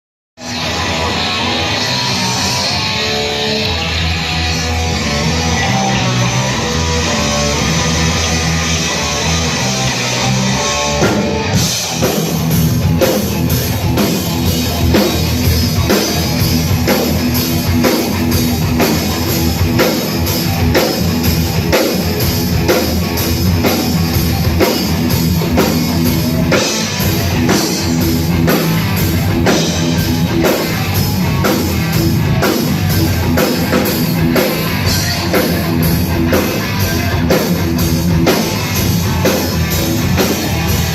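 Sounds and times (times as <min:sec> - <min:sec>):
electric guitar: 0:00.4 - 0:40.9
drum kit beat: 0:07.0 - 0:40.9.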